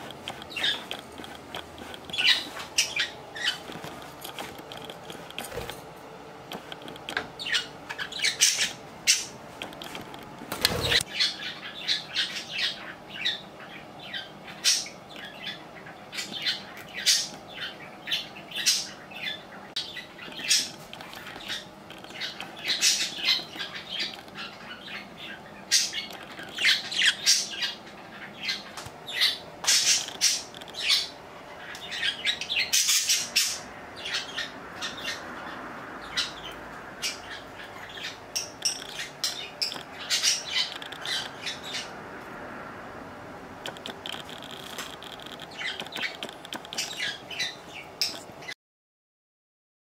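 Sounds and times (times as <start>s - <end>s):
budgerigars chirping and squawking: 0.0s - 4.5s, 6.8s - 42.0s, 43.6s - 48.5s.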